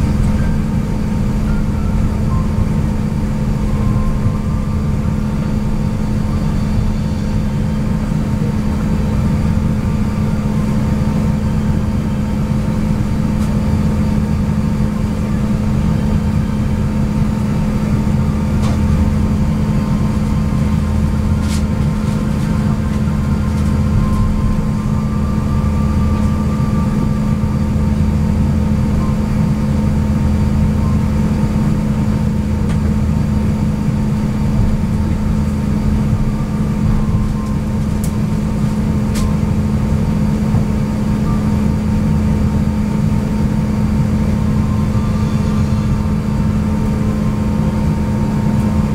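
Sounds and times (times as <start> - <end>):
aircraft cabin hum: 0.0 - 48.9
deep rumble: 0.0 - 48.9.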